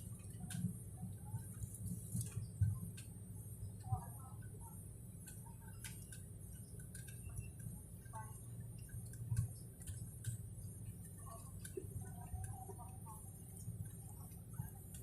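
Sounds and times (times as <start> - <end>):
light clicks and ticks: 0.0 - 15.0.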